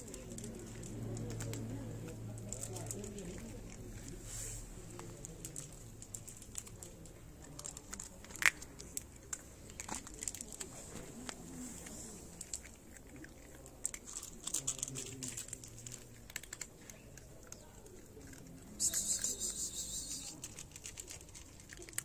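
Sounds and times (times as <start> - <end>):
cats crunching dry kibble: 0.0 - 22.0.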